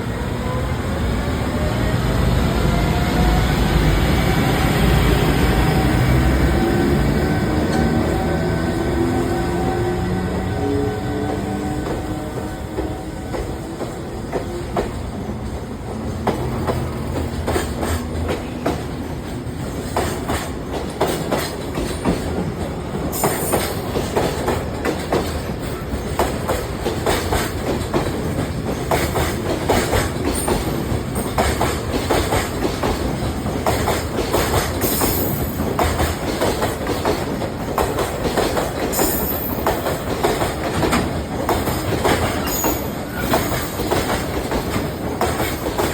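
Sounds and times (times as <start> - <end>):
train wheels clacking over rails: 2.4 - 45.9.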